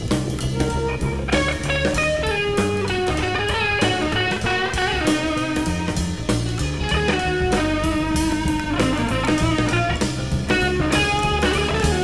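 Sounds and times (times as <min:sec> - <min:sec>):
drums steady beat: 0:00.0 - 0:12.0
guitar music: 0:00.0 - 0:12.0.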